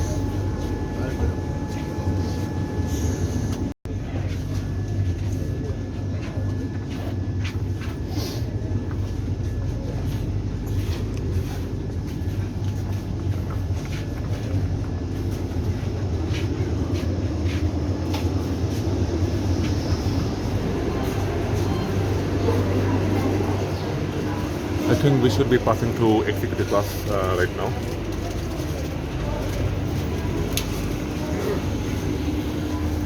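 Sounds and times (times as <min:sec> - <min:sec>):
train carriage hum and rumble: 0:00.0 - 0:33.0.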